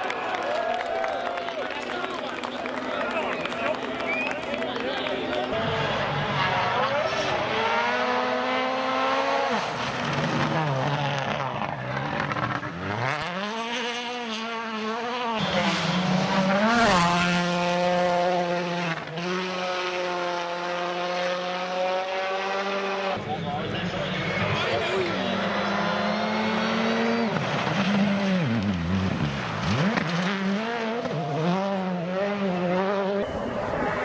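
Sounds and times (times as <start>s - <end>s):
rally cars at full throttle: 0.0s - 34.0s.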